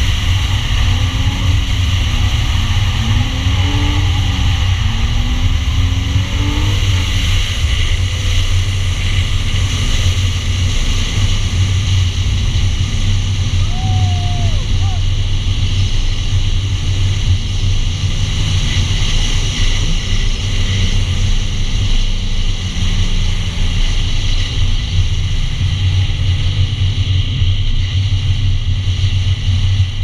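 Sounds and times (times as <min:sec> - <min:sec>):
car engine running at steady revs: 0:00.0 - 0:30.0
low rumble of car noise: 0:00.0 - 0:30.0.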